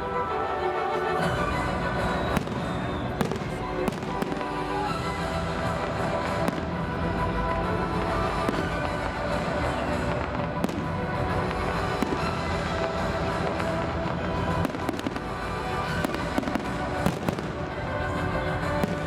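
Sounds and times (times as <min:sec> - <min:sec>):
music playing: 0:00.0 - 0:19.0
fireworks bangs: 0:02.0 - 0:06.8, 0:08.0 - 0:19.0.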